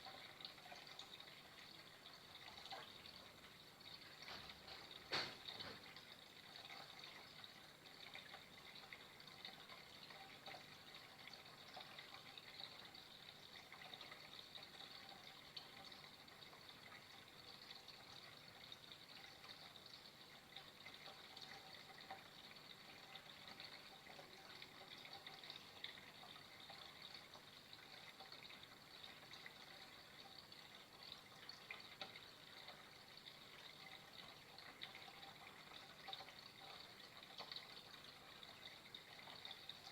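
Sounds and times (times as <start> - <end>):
faint trickle of water: 0.0 - 39.9.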